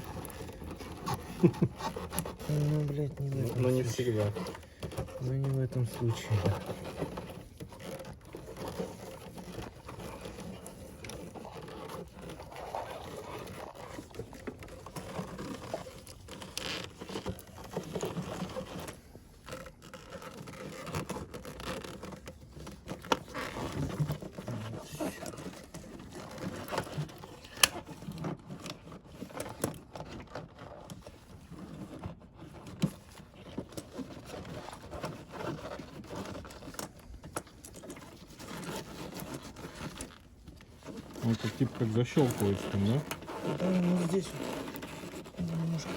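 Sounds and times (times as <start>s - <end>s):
plastic and metal parts scraping: 0.0s - 45.9s.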